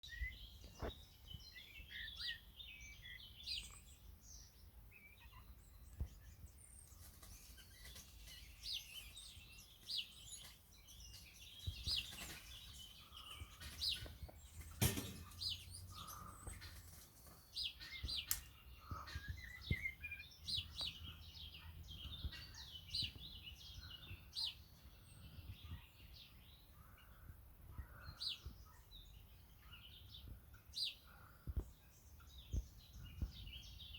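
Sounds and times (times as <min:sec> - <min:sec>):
blackbirds sharp calls: 0:00.0 - 0:33.9.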